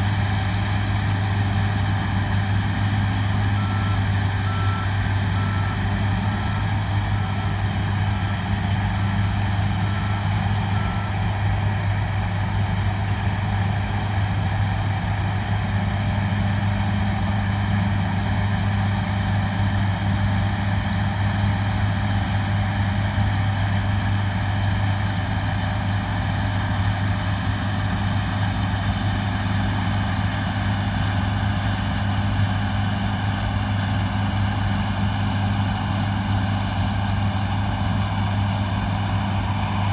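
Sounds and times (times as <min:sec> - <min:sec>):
large diesel engine running: 0:00.0 - 0:39.9.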